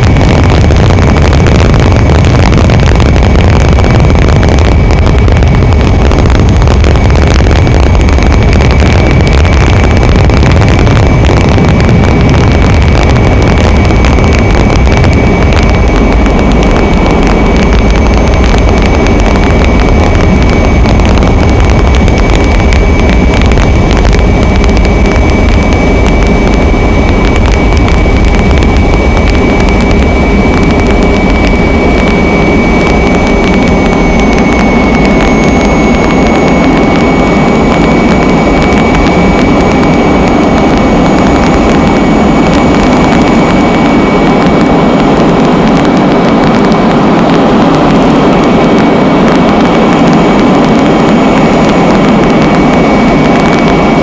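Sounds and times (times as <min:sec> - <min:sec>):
aircraft cabin engine drone: 0:00.0 - 0:54.0
constant high whine: 0:00.0 - 0:54.0.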